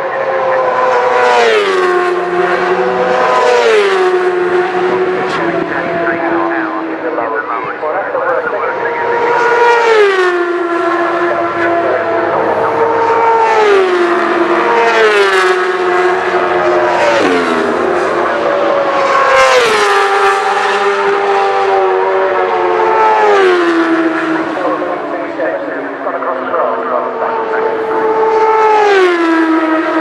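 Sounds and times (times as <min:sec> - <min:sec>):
racing motorcycles passing: 0:00.1 - 0:30.0.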